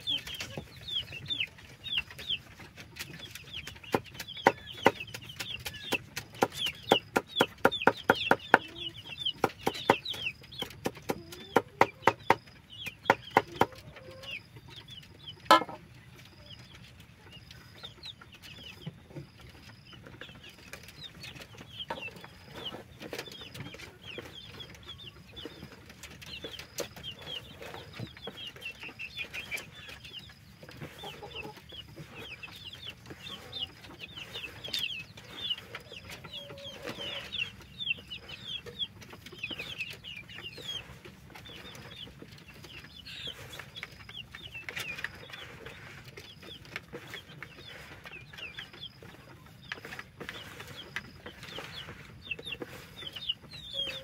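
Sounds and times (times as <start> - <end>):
chickens clucking and peeping: 0.0 - 54.0.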